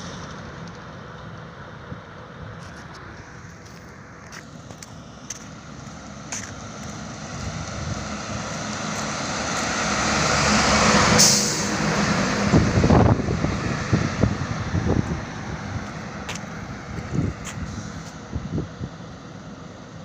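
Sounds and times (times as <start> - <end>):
low buffeting: 0.0 - 19.7
heavy truck passing: 0.0 - 20.0.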